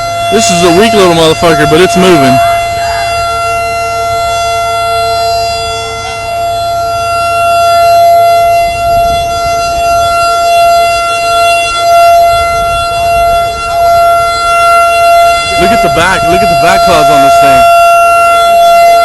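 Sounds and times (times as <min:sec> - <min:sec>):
warning siren: 0:00.0 - 0:19.0.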